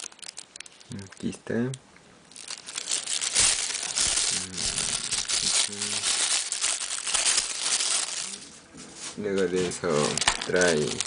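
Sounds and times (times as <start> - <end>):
plastic bag crinkling: 0.0 - 1.4, 2.3 - 8.6, 9.6 - 11.0.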